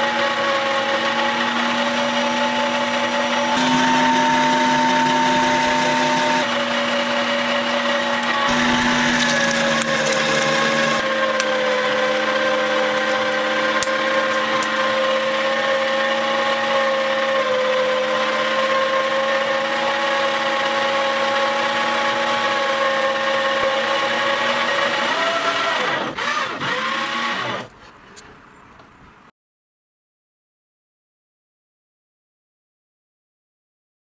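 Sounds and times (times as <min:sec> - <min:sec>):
meat grinder motor whining: 0:00.0 - 0:27.8.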